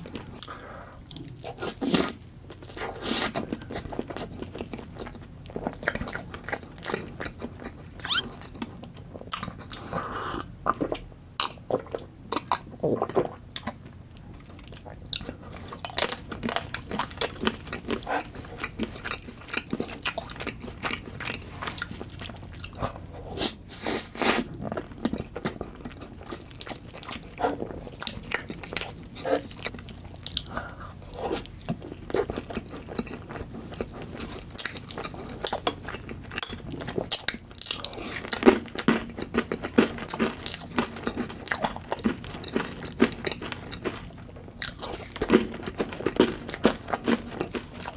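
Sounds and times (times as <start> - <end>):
chewing cake with crunchy snaps: 0.0 - 47.9.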